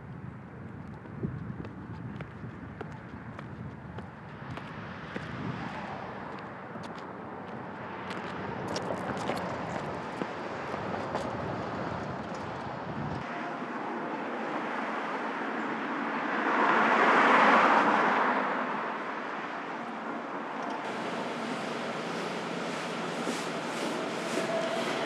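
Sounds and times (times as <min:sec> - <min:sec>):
street ambience: 0:00.0 - 0:25.0.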